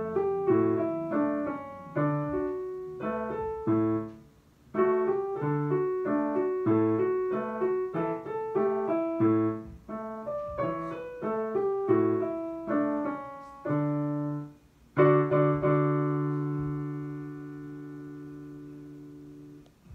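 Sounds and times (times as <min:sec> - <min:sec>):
digital piano piece: 0:00.0 - 0:19.9.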